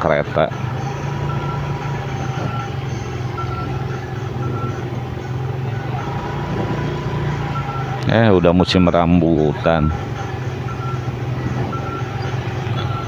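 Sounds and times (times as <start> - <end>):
motorcycle engine running: 0.0 - 13.0
street traffic noise: 0.0 - 13.0.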